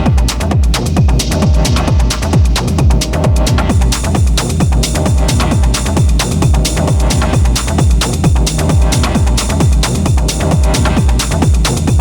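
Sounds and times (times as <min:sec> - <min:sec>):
hard techno music: 0:00.0 - 0:12.0
hi-hats: 0:00.0 - 0:12.0
kick drum: 0:00.0 - 0:12.0
synth layers: 0:00.0 - 0:12.0.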